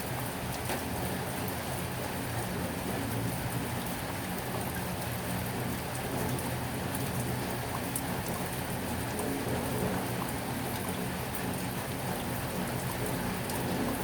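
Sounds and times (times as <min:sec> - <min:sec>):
rain drops ticking: 0:00.1 - 0:14.0.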